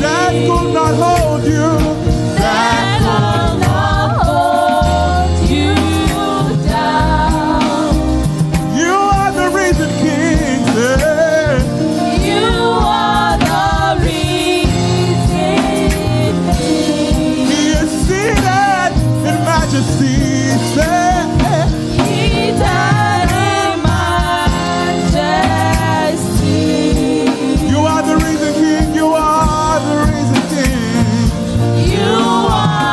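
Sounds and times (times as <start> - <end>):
steady drum beat: 0.0 - 32.9
voices singing gospel music: 0.0 - 32.9.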